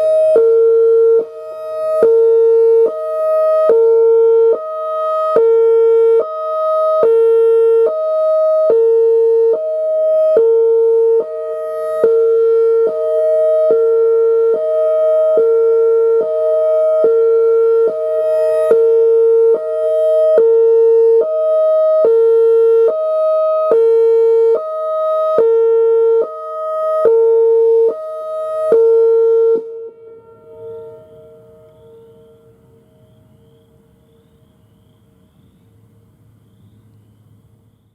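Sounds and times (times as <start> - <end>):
two-tone electronic siren: 0.0 - 33.9.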